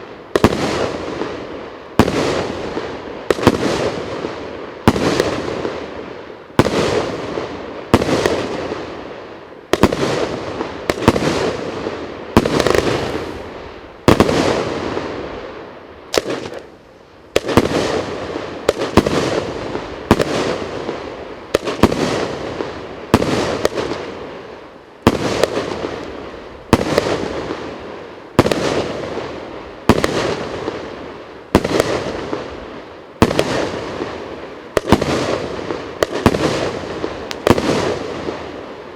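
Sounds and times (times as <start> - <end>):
cake fireworks firing bangs: 0.0 - 9.1, 9.7 - 15.5, 16.1 - 16.7, 17.3 - 38.9.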